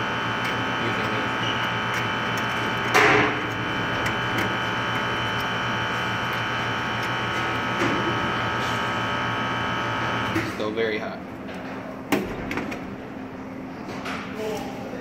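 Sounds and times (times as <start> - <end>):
furnace motor humming: 0.0 - 15.0.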